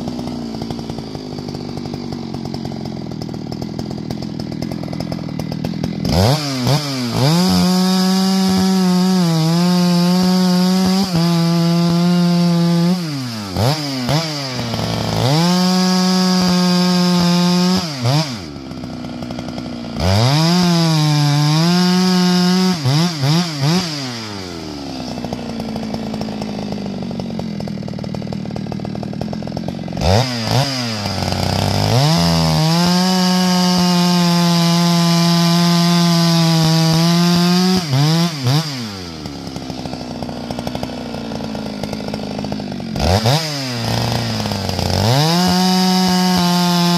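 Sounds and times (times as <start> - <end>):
chainsaw cutting logs: 0.0 - 46.9.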